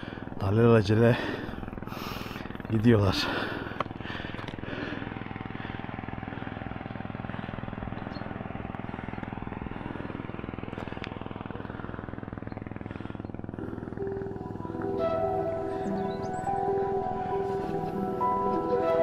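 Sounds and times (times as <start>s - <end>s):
car engine running: 1.1s - 19.0s.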